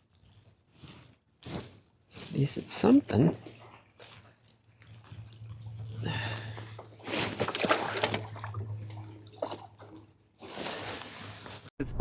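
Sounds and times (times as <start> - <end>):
water splashing and sloshing: 0.7 - 11.7.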